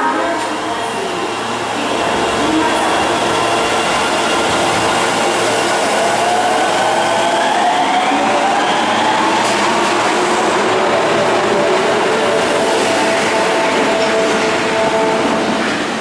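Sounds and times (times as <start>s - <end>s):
subway train running noise: 0.0s - 16.0s.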